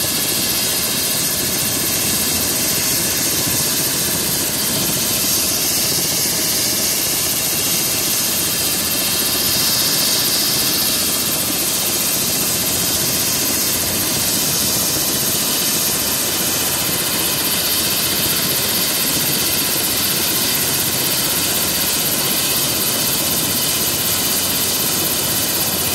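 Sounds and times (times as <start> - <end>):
helicopter rotor rush: 0.0 - 25.9
helicopter turbine whine: 0.0 - 25.9.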